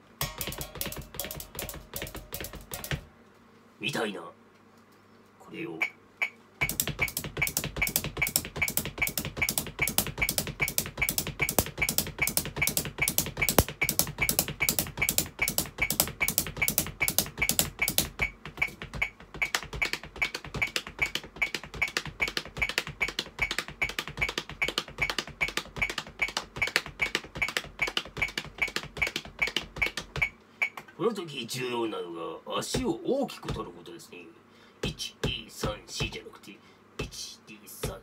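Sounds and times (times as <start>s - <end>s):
sticks tapping practice pad: 0.0s - 3.1s, 6.2s - 30.9s, 32.7s - 33.7s, 34.8s - 36.2s, 37.0s - 38.0s.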